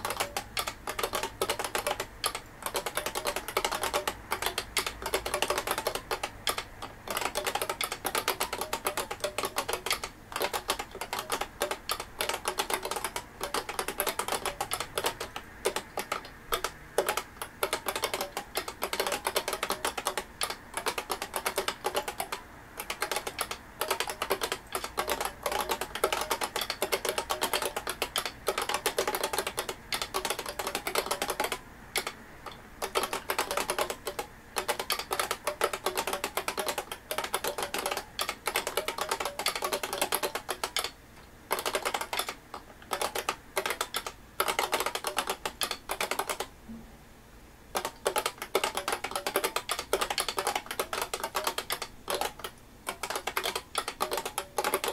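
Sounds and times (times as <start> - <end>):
keyboard typing clicks: 0.0 - 46.5, 47.7 - 54.9.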